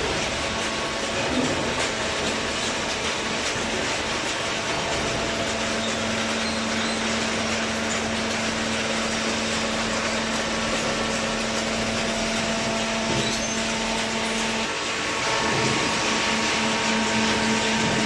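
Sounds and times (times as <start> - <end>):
hydraulic baler motor and pump hum: 0.0 - 18.0.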